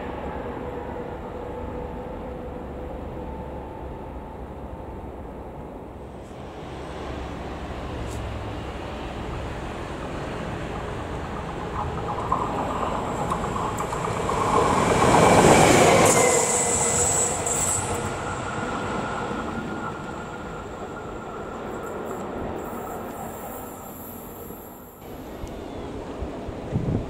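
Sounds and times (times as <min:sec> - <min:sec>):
electric locomotive passing: 0:00.0 - 0:27.0
wheel and rail noise: 0:00.0 - 0:27.0.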